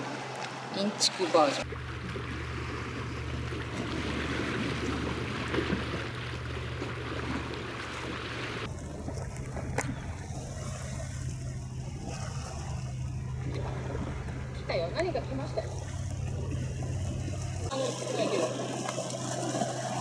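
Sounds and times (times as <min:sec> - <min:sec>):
water lapping on rocks: 0:00.0 - 0:20.0
low rumble: 0:01.7 - 0:17.8.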